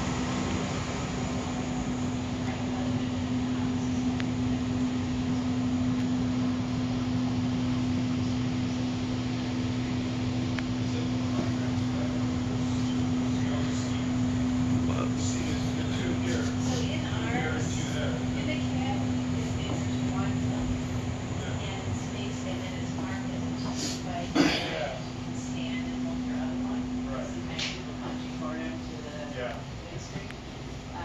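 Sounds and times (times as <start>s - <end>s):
rail car interior hum: 0.0s - 31.0s
ventilation airy noise: 0.0s - 31.0s.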